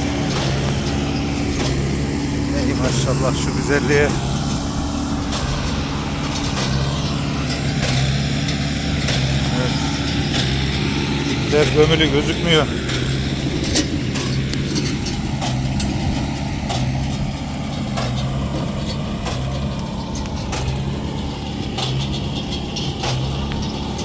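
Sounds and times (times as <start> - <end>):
hay baler knocks: 0.0 - 24.0
tractor engine running: 0.0 - 24.0.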